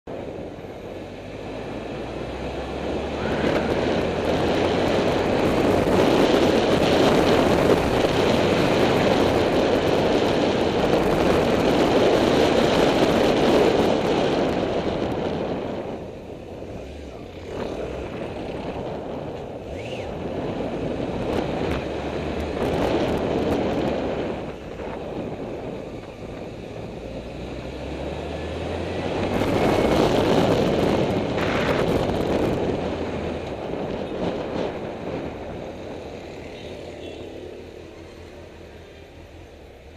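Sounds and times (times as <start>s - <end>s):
wind rushing over microphone: 0.0s - 39.9s
motorcycle engine: 0.2s - 39.9s.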